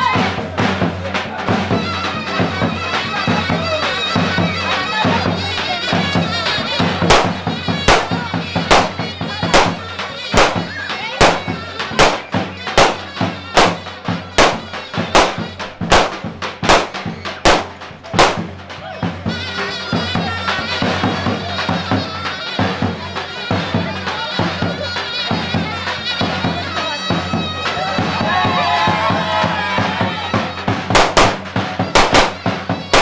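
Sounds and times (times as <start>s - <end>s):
heavy drum beats: 0.0s - 33.0s
shrill reed-pipe melody: 1.4s - 33.0s.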